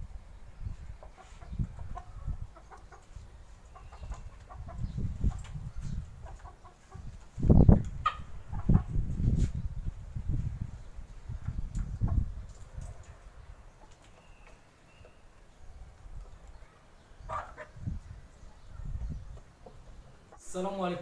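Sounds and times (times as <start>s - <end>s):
chickens clucking: 0.6s - 9.6s, 11.2s - 20.6s.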